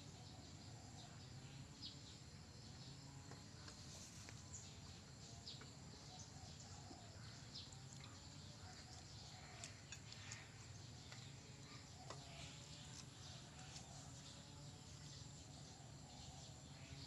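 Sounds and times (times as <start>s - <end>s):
faint outdoor hum: 0.0s - 17.0s.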